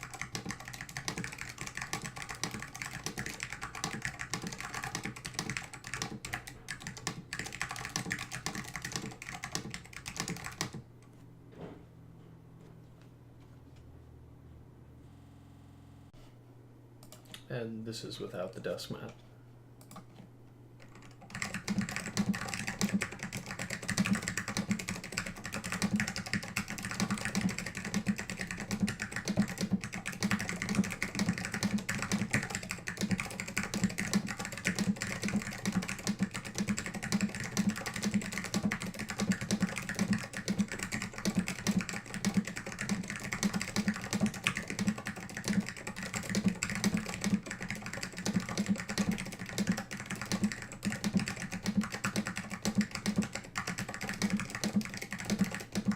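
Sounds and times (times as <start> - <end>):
mechanical keyboard typing: 0.0 - 10.8, 20.8 - 55.9.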